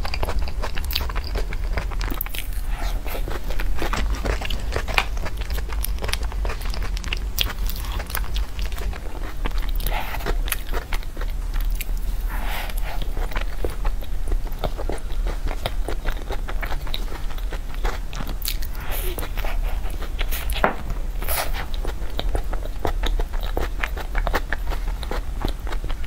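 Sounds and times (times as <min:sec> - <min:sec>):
biting and chewing soft dessert: 0:00.0 - 0:26.0.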